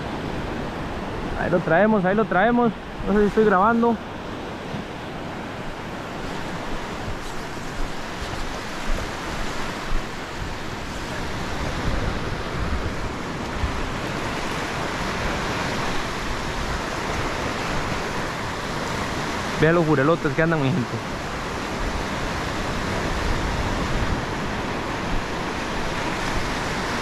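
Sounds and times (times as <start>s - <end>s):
surf breaking on beach: 0.0s - 27.0s.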